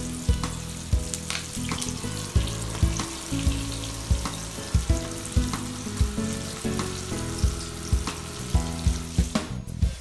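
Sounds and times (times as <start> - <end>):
background music with beat: 0.0 - 10.0
chicken sizzling in hot oil: 0.0 - 10.0.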